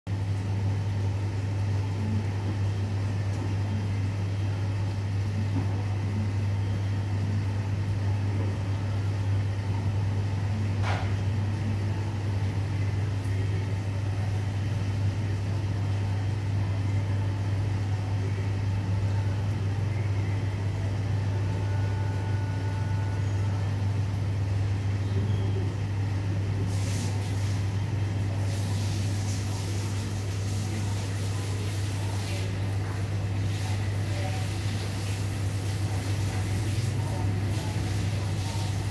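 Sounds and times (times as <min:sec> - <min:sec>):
low machine hum: 0:00.1 - 0:38.9.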